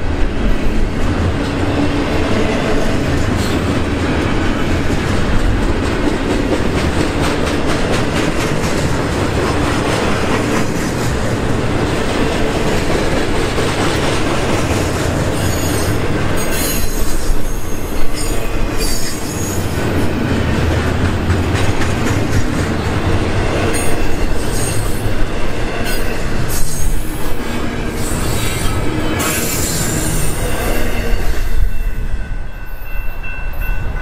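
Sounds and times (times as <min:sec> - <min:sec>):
steel wheels rumbling on rail: 0:00.0 - 0:34.0.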